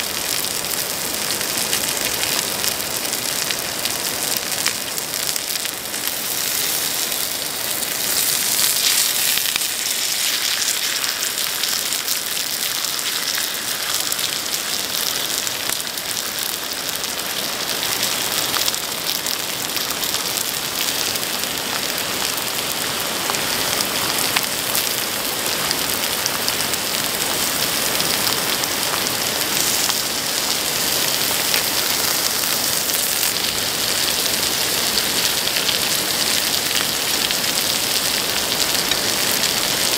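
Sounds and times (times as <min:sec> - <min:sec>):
meat sizzling on a griddle: 0:00.0 - 0:39.9.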